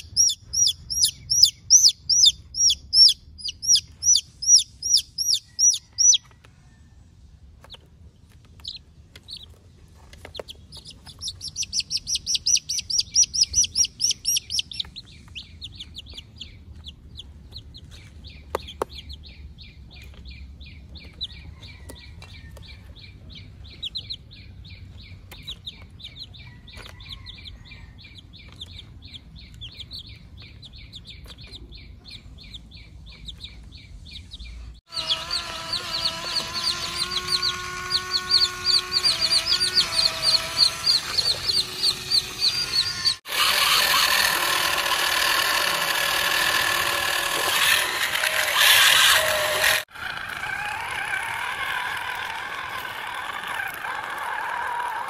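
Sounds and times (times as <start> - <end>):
chicks peeping: 0.0 - 44.4.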